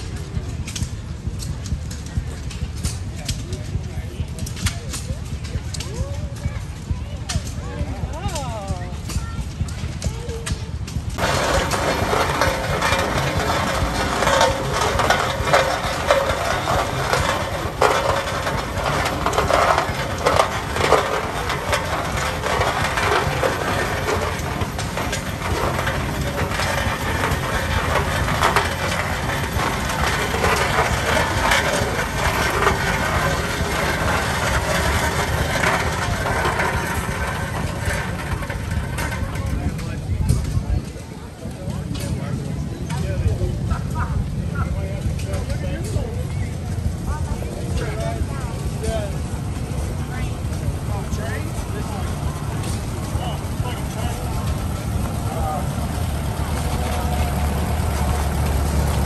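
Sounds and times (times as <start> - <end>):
steel wheels crunching gravel: 0.0 - 59.0.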